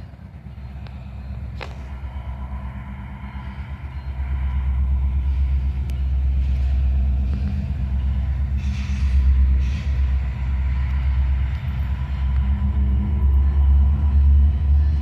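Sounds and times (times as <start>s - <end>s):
diesel locomotives rumbling: 0.0s - 15.0s.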